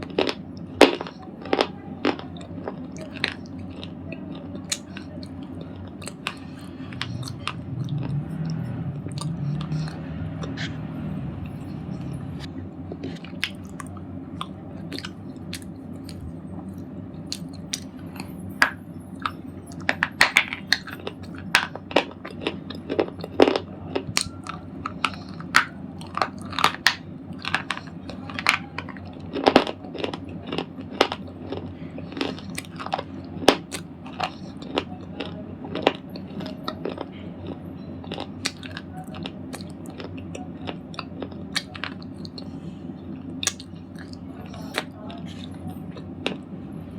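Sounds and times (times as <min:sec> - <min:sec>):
person crunching on a hard object: 0:00.0 - 0:46.4
faint steady hum: 0:00.0 - 0:46.9.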